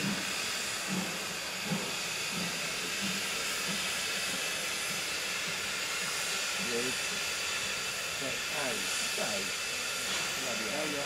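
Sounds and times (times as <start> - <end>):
steam hissing from locomotive: 0.0 - 11.0.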